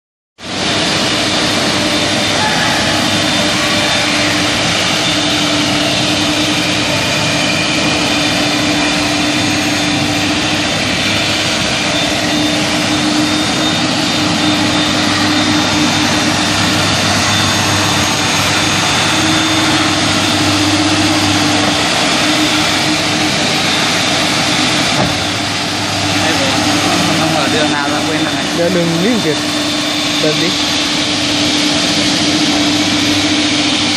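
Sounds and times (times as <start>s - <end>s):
floor scrubber humming: 0.4s - 33.9s.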